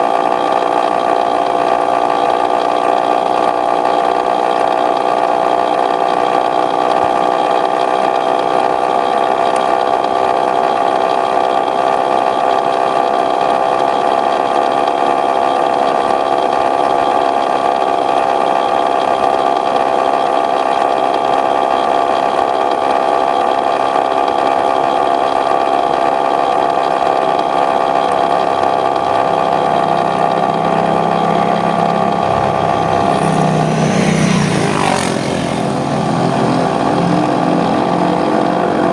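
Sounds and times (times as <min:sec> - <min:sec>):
two-stroke engine at high revs: 0:00.0 - 0:38.9.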